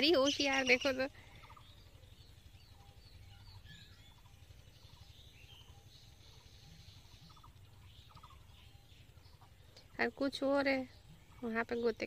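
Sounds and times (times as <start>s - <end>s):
fowl pulsed calls: 0.0s - 10.1s
small birds chirping: 0.0s - 12.0s.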